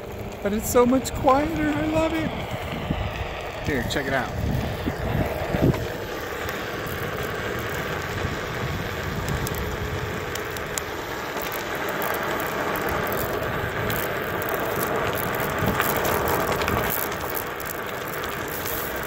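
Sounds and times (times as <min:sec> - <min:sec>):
board rolling over pavement: 0:00.0 - 0:19.0
small scattered clicks: 0:00.0 - 0:19.0.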